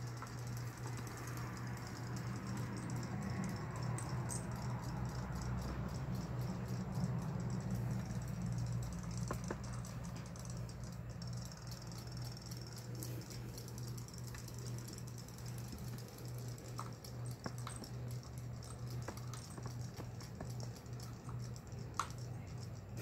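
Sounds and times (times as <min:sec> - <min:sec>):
low motor hum with ticking: 0:00.0 - 0:23.0.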